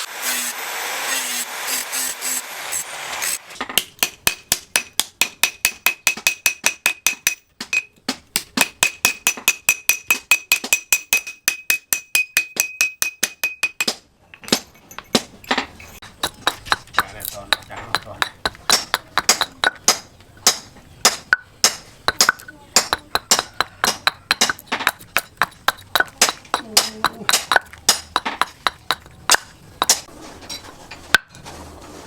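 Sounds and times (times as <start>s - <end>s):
hammer striking steel: 1.2s - 30.1s.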